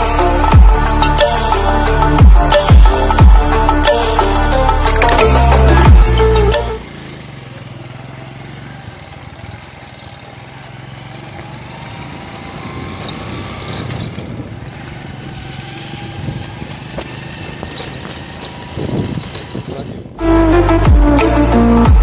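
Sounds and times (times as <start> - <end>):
small engine running: 4.2 - 21.9.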